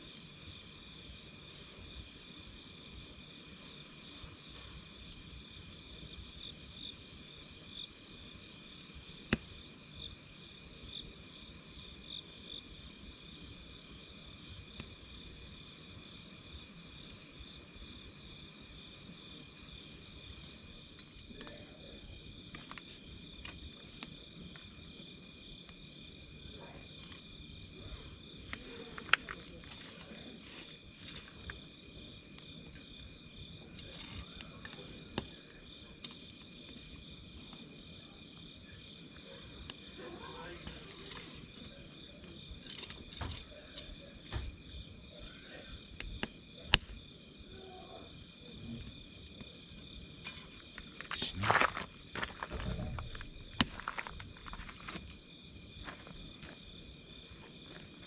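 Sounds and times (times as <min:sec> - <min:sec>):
campfire crackling and popping: 0:00.0 - 0:58.0
insects chirring: 0:00.0 - 0:58.0.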